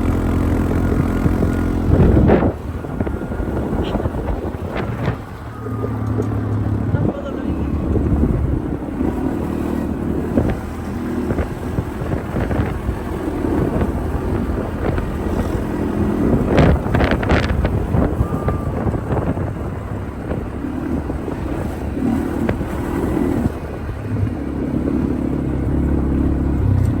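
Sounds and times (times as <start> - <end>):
quad bike engine running: 0.0 - 27.0
wind buffeting microphone: 0.0 - 27.0.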